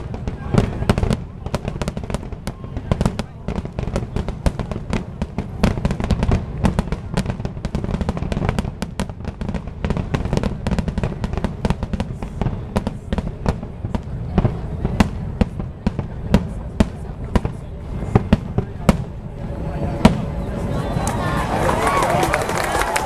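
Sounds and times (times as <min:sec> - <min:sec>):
continuous low rumble: 0:00.0 - 0:23.0
fireworks cracking and booming: 0:00.0 - 0:23.0.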